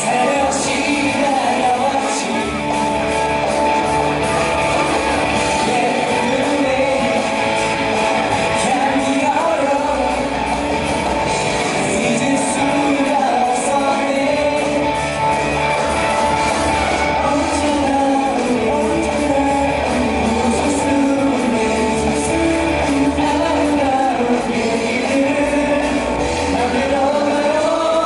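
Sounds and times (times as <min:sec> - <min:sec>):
bass guitar: 0:00.0 - 0:28.0
electric guitars: 0:00.0 - 0:28.0
live band playing pop-rock: 0:00.0 - 0:28.0
man singing: 0:00.0 - 0:28.0.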